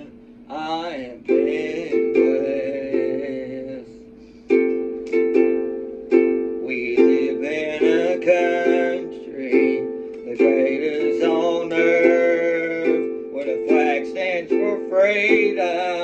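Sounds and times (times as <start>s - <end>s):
man singing: 0.0s - 4.1s, 6.6s - 16.0s
ukulele strumming chords: 0.0s - 16.0s.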